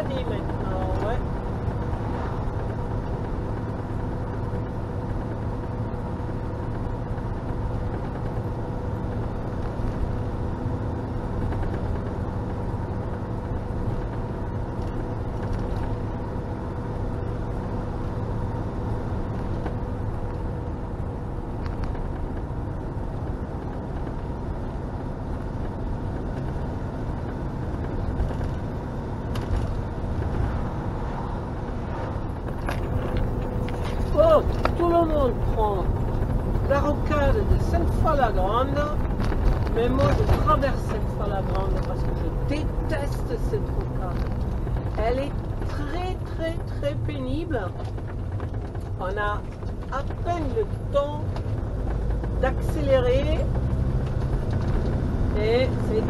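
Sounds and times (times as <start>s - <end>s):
steady hum: 0.0s - 53.4s
vehicle engine and road noise: 0.0s - 56.0s.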